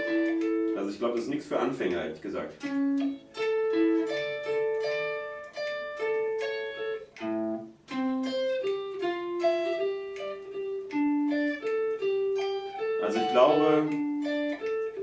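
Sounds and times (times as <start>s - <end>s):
clean electric guitar riff: 0.0s - 15.0s.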